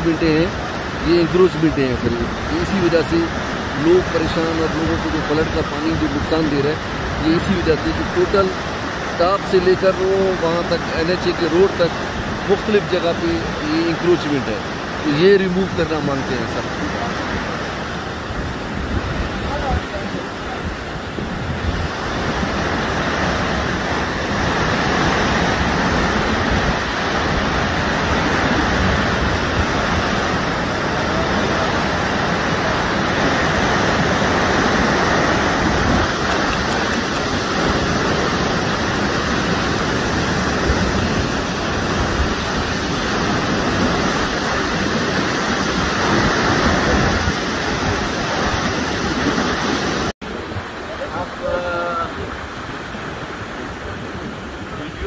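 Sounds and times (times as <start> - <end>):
flood water rushing: 0.0 - 55.0.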